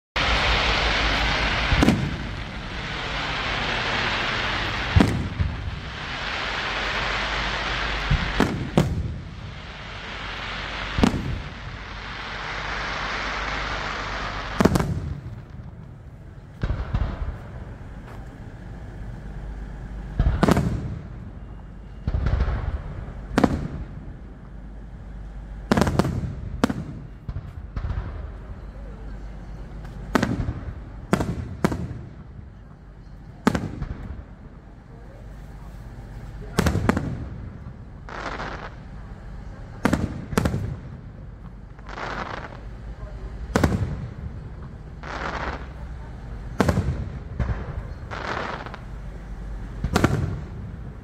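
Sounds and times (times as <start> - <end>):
firework shells bursting with bangs: 0.2 - 18.4, 20.2 - 24.2, 25.7 - 28.6, 29.2 - 34.6, 35.6 - 51.0
steady hiss: 0.2 - 51.0.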